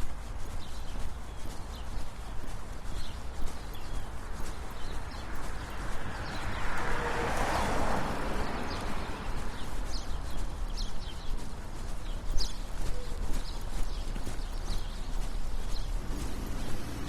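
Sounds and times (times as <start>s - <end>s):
brisk footsteps on sidewalk: 0.0s - 17.0s
vehicle passing: 2.8s - 17.0s.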